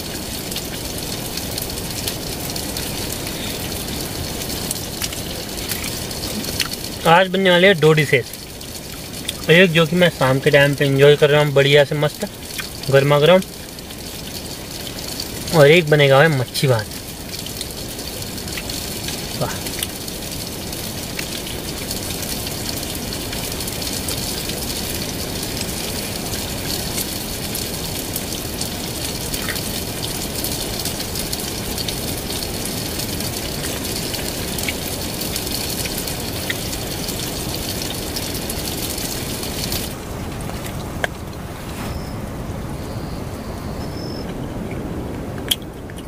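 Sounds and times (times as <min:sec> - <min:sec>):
heavy rain on a tent: 0:00.0 - 0:46.0.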